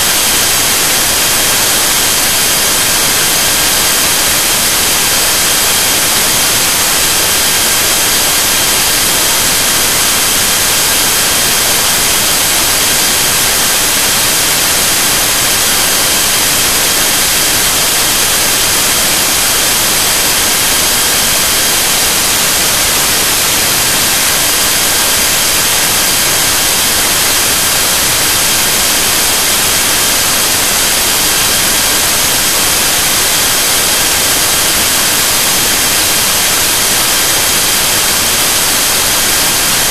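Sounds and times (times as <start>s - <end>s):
loud steady static hiss: 0.0s - 39.9s.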